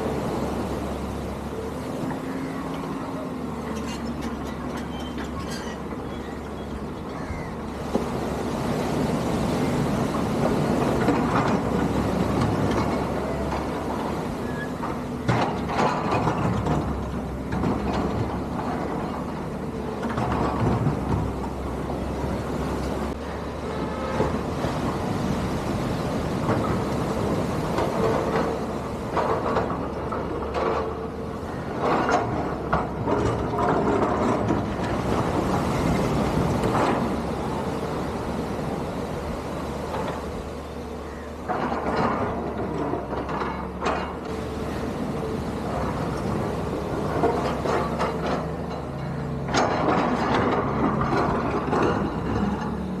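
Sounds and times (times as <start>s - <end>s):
excavator diesel rumble: 0.0s - 53.0s.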